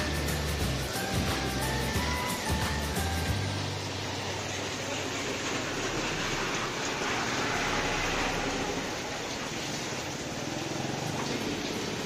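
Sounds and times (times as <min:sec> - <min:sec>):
aquarium water bubbling: 0:00.0 - 0:12.0.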